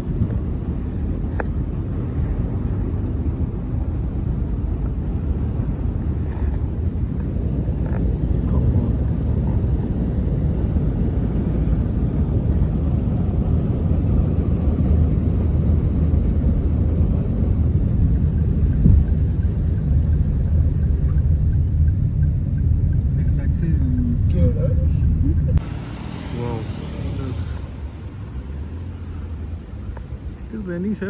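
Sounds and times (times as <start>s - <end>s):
road vehicle rumbling: 0.0s - 31.0s.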